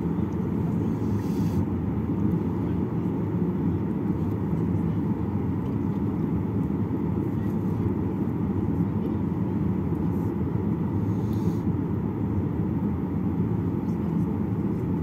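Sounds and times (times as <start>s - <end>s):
aircraft engines rumbling: 0.0s - 15.0s
aircraft rolling on taxiway: 0.0s - 15.0s.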